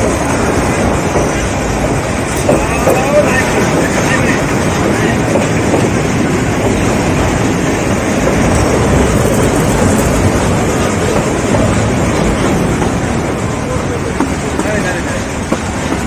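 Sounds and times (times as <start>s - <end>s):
train rumbling and rattling on rails: 0.0s - 16.0s.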